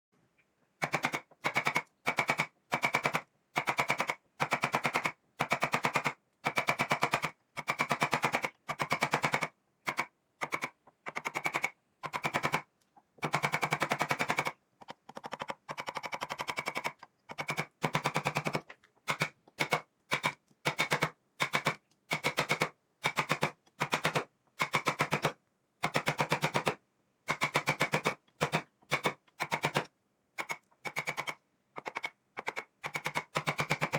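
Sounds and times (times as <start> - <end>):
carving tool chipping wood: 0.8 - 33.9.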